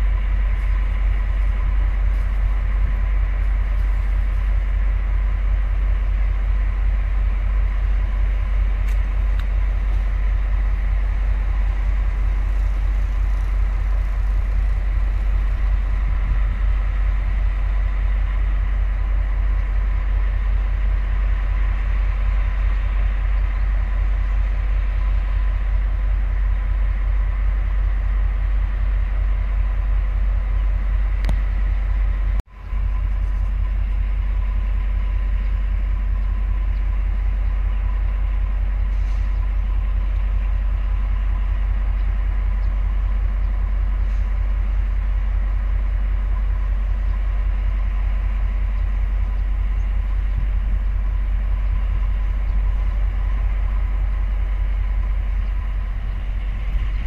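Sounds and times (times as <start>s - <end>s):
diesel locomotive rumbling: 0.0s - 57.0s.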